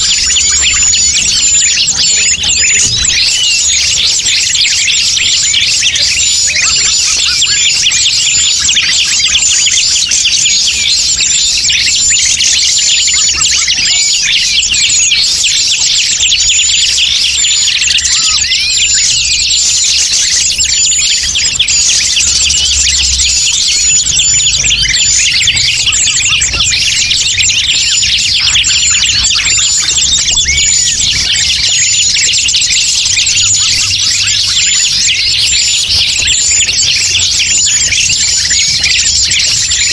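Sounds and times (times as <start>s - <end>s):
many birds chirping and trilling: 0.0s - 39.9s.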